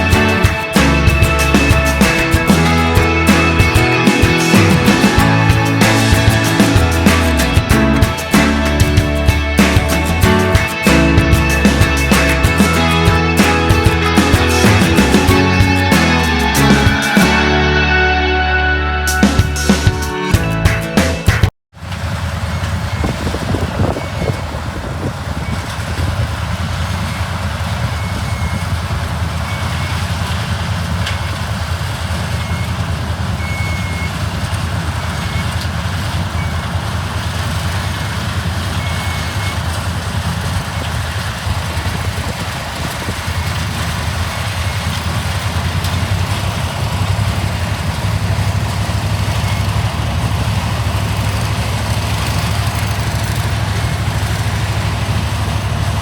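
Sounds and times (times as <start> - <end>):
machinery engine running: 0.0 - 56.0.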